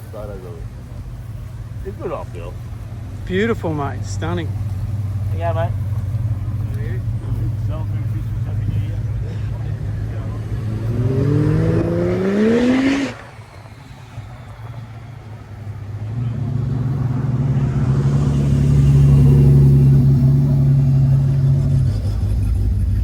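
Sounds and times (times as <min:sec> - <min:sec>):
car engine revving: 0:00.0 - 0:23.0
steady low engine note: 0:00.0 - 0:23.0.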